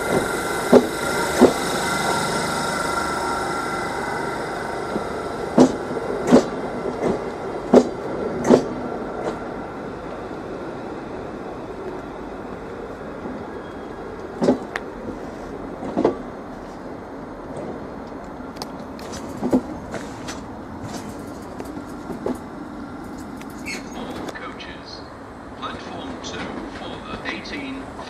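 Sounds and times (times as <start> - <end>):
electric train rumbling: 0.0 - 28.0.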